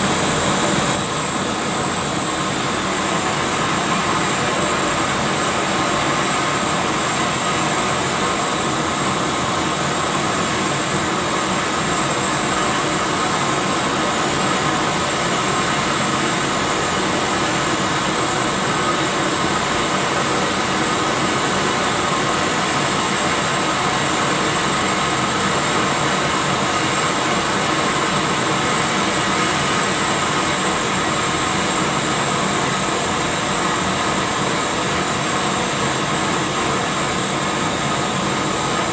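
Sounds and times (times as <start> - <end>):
torch and fans roaring: 0.0 - 38.9.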